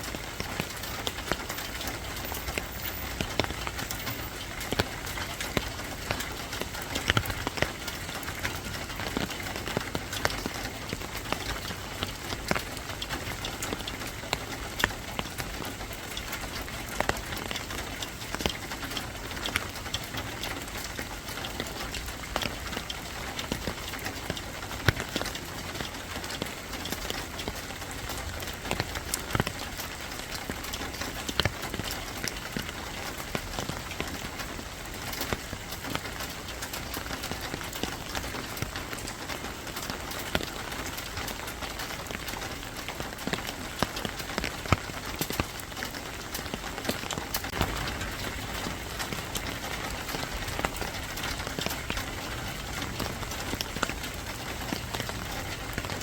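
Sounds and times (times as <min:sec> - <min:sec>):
raindrops tapping on a surface: 0:00.0 - 0:56.0
steady rain: 0:00.0 - 0:56.0.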